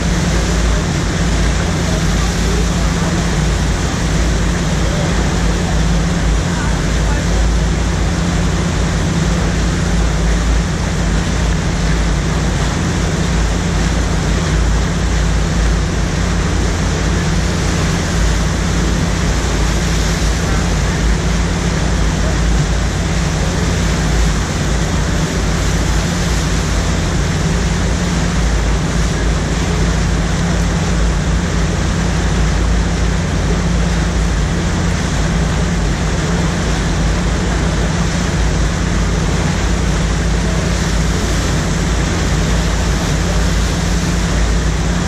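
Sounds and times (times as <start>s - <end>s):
churning whitewater rushing: 0.0s - 45.0s
steady low hum: 0.0s - 45.0s.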